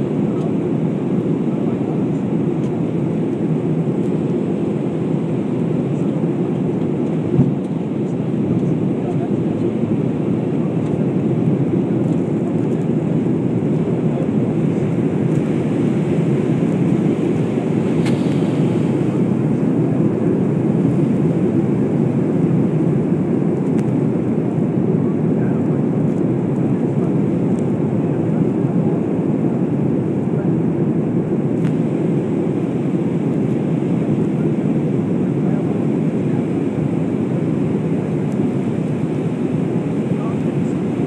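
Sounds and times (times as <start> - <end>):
jet cabin engine and airflow rush: 0.0 - 41.0.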